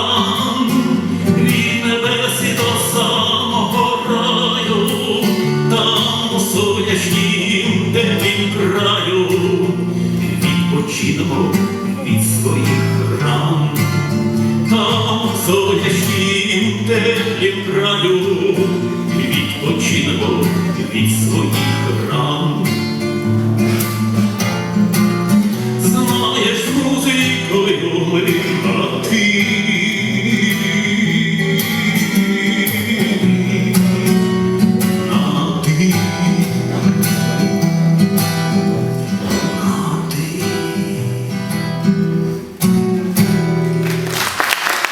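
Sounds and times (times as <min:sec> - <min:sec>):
live band with guitars: 0:00.0 - 0:44.9.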